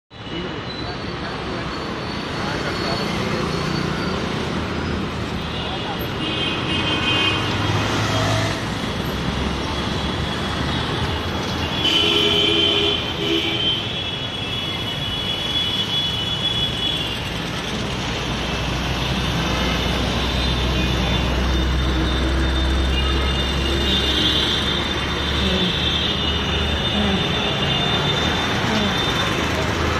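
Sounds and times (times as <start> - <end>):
road traffic passing: 0.1 - 29.9.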